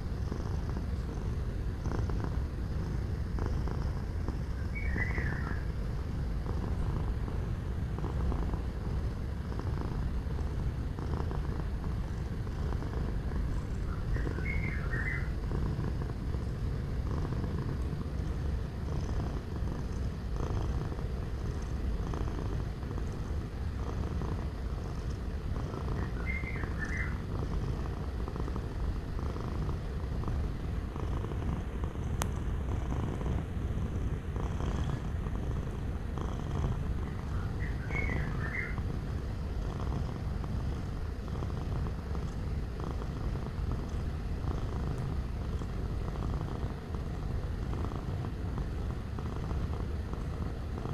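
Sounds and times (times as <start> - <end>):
cat purring: 0.0 - 50.9.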